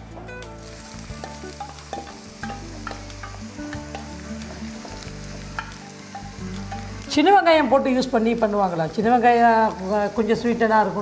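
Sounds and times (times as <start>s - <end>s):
onions sizzling in hot oil: 0.4s - 11.0s.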